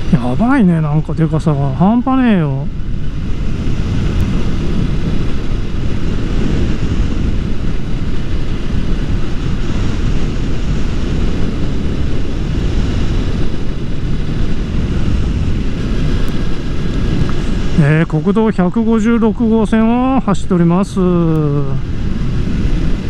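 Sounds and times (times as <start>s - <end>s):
motorcycle engine and tyre noise: 0.0s - 23.0s
wind rushing over microphone: 0.0s - 23.0s.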